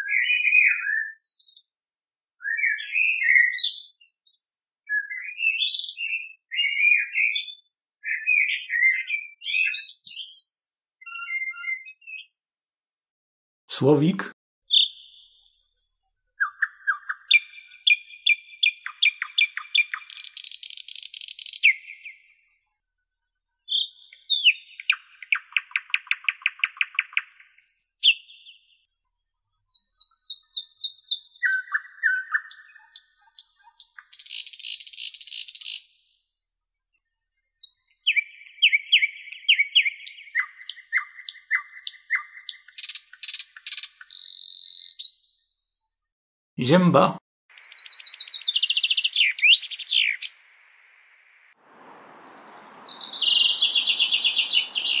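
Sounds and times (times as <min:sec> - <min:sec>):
nightingale singing: 0:00.0 - 0:01.7, 0:02.4 - 0:12.4, 0:14.7 - 0:22.1, 0:23.6 - 0:28.5, 0:29.7 - 0:36.2, 0:37.6 - 0:45.4, 0:47.6 - 0:50.4, 0:51.8 - 0:55.0.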